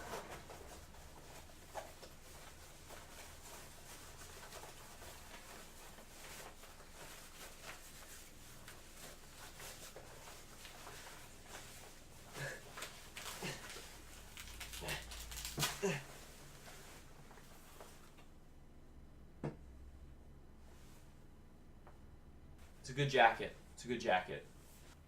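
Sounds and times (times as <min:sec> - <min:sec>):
jacket fabric rustling: 0:00.0 - 0:18.3, 0:22.6 - 0:25.0.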